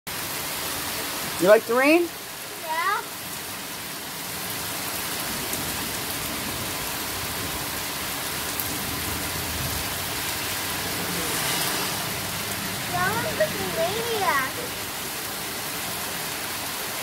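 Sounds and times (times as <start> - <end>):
steady rain falling: 0.1 - 17.0.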